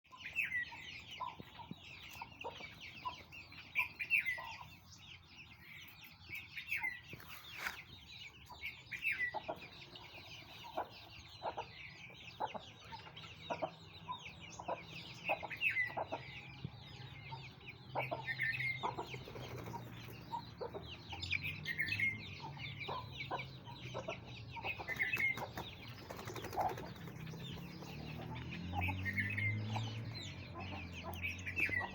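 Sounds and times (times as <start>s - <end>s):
chicks peeping: 0.1s - 31.9s.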